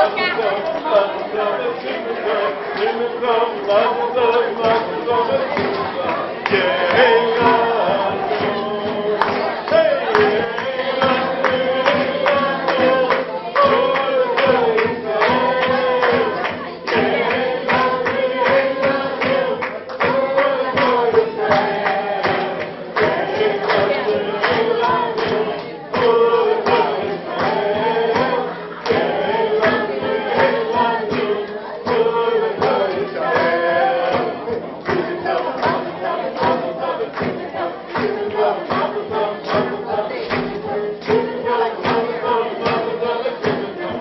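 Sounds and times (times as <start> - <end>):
group of people singing: 0.0 - 44.0
quick steady beat: 2.7 - 44.0.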